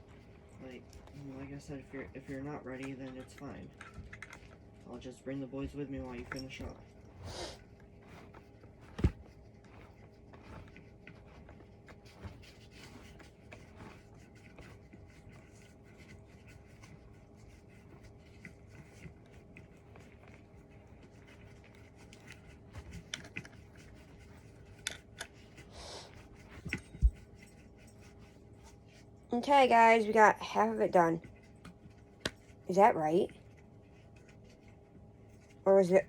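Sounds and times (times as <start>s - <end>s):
small clicks and rustles: 0.0s - 29.4s
faint steady hum: 0.0s - 36.0s.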